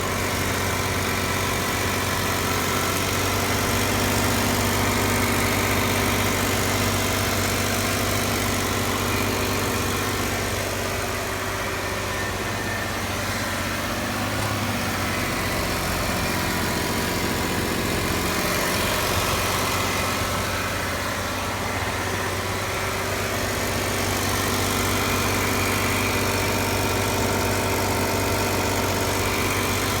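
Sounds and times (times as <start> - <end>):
car engine running: 0.0 - 30.0
engine ticking: 0.0 - 30.0.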